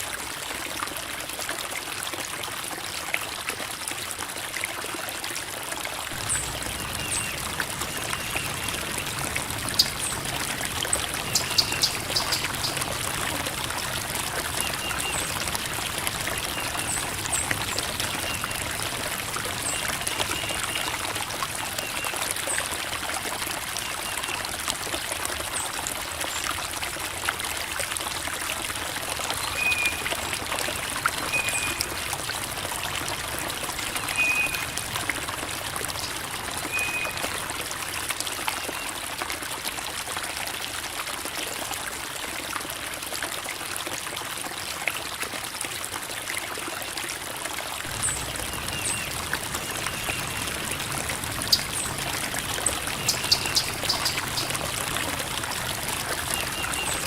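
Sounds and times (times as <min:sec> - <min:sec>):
creek water babbling over rocks: 0:00.0 - 0:57.0.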